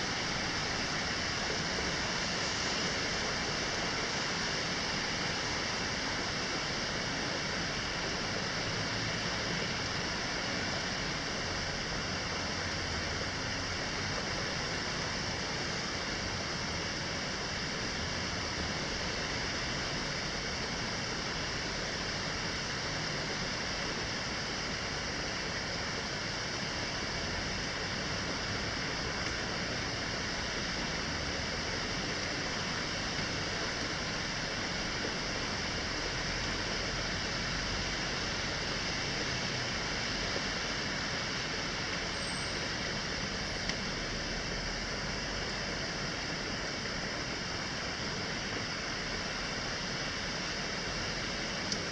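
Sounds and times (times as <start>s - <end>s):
rain hissing: 0.0s - 51.9s
wind in leaves: 0.0s - 51.9s.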